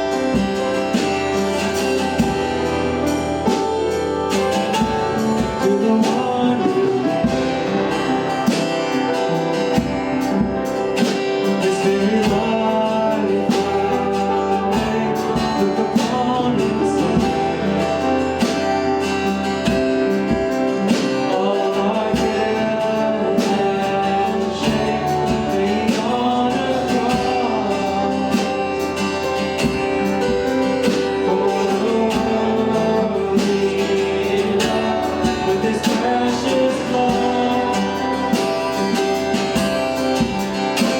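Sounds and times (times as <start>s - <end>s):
acoustic guitar: 0.0s - 40.9s
steady beat: 0.0s - 40.9s
person singing worship song: 4.4s - 9.8s, 10.8s - 19.2s, 20.2s - 39.8s.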